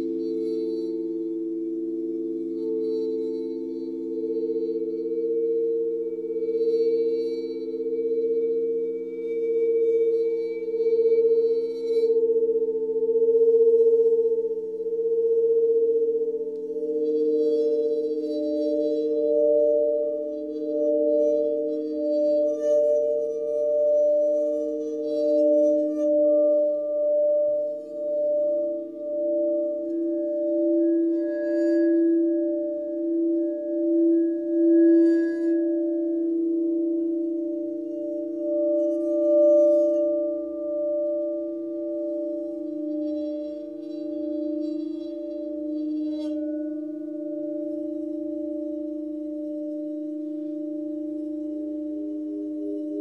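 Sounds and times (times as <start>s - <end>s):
singing bowls ringing: 0.0s - 53.0s
sustained healing tones drone: 0.0s - 53.0s.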